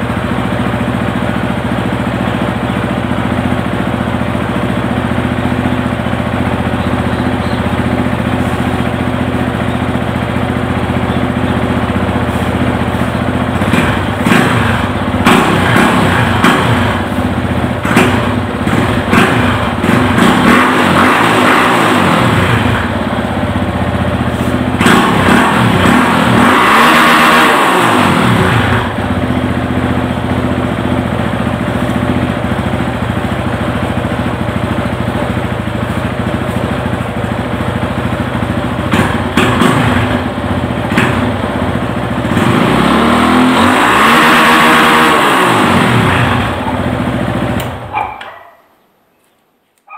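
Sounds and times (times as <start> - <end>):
motorcycle engine idling and revving: 0.0 - 48.8.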